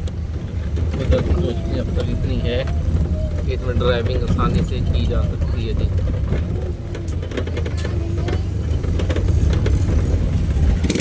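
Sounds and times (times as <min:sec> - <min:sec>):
road noise: 0:00.0 - 0:11.0
traffic: 0:00.0 - 0:11.0
vehicle engine rumble: 0:00.0 - 0:11.0.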